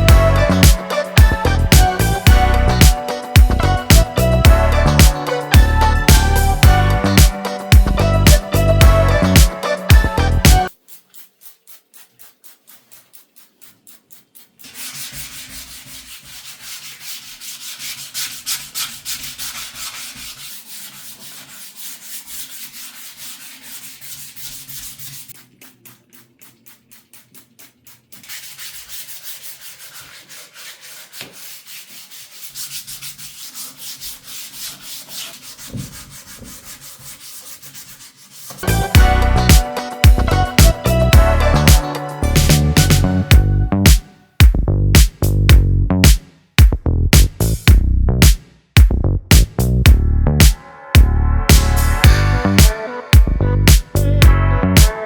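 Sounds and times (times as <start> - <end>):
hand sanding scratchy rubbing: 0.0 - 44.1.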